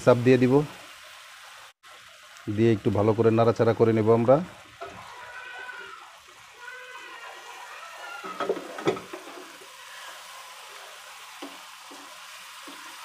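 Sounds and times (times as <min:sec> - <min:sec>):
onion masala sizzling in pan: 0:00.0 - 0:13.0.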